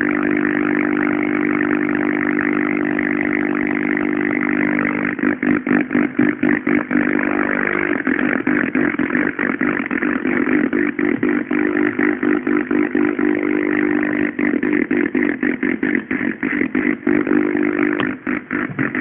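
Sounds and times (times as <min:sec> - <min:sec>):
electronic buzzing drone: 0:00.0 - 0:19.0.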